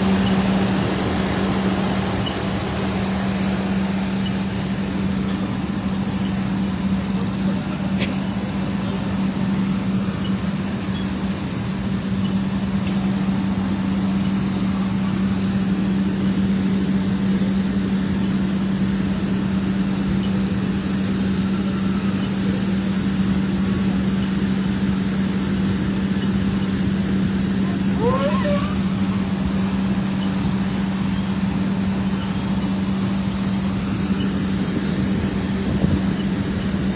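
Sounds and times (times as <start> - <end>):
fire engine motor humming: 0.0 - 36.9.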